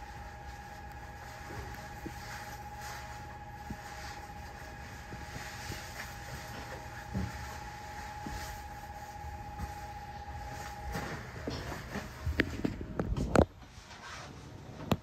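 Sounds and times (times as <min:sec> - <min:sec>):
electric traction drive whine: 0:00.0 - 0:13.5.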